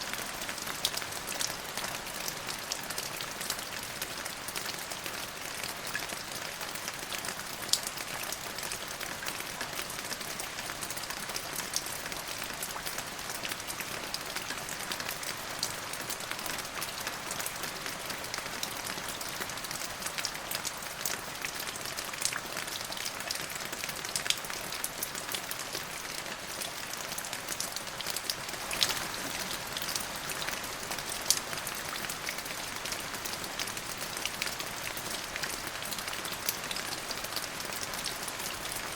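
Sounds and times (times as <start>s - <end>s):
rain on hard surface: 0.0s - 38.9s.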